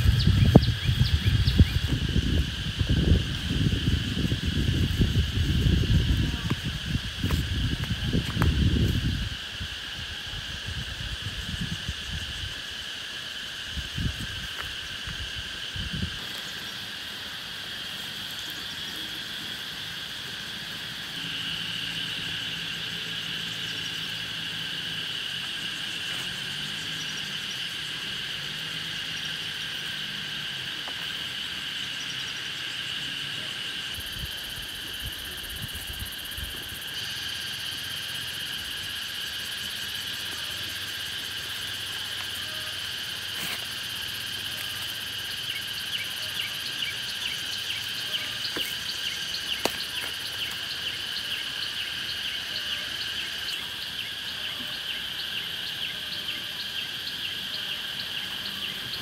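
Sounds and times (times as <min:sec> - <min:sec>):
chorus of insects and frogs: 0:00.0 - 0:59.0.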